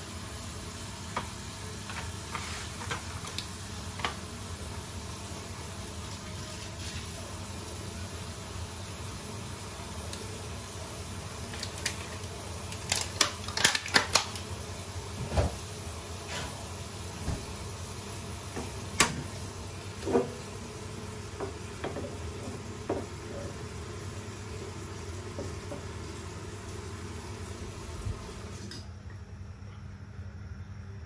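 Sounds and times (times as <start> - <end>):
steady hiss of cooking: 0.0 - 29.0
low gas burner rumble: 0.0 - 31.0.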